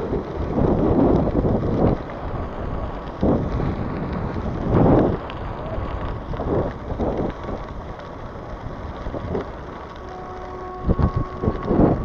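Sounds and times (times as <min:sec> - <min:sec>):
bike tyres on gravel: 0:00.0 - 0:12.0
wind rumbling on microphone: 0:00.0 - 0:12.0.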